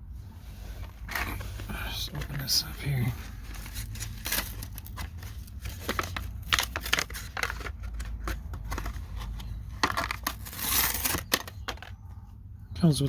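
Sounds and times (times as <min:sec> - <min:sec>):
packaging crackling and tearing: 0:01.0 - 0:12.0.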